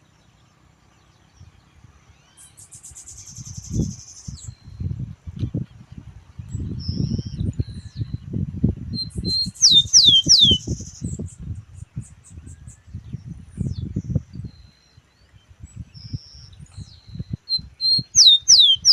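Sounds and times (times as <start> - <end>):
sparrow singing whistled notes: 0.0 - 18.9.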